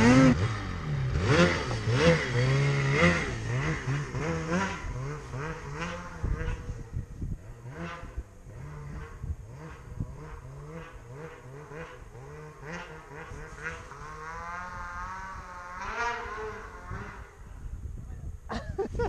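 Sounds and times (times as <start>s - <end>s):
snowmobile engine running: 0.0s - 17.7s.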